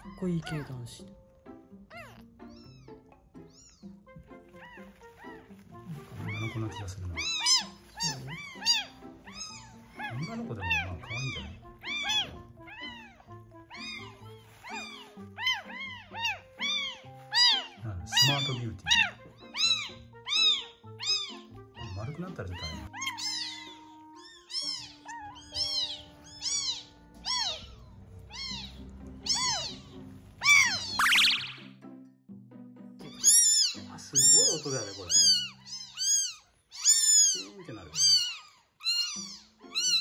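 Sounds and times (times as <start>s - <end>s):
kitten crying: 0.0s - 31.8s, 33.0s - 40.0s
soft background music: 0.0s - 40.0s.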